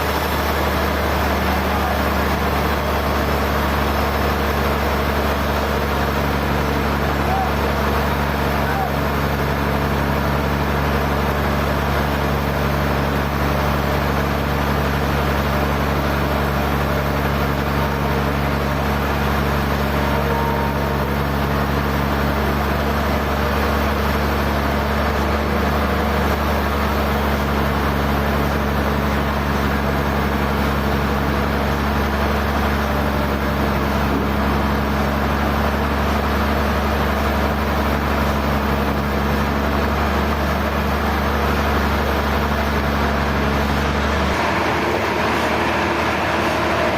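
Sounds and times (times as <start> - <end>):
sawmill engine droning: 0.0 - 46.9.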